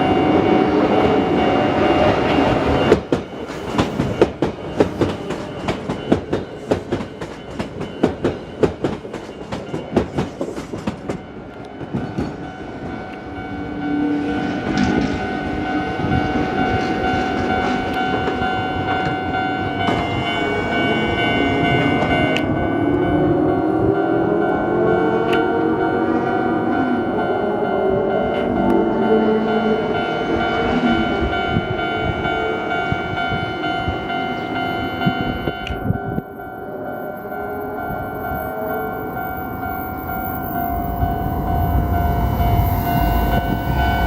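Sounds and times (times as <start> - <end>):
electric train passing: 0.0 - 44.0
level crossing warning bell: 0.0 - 44.0.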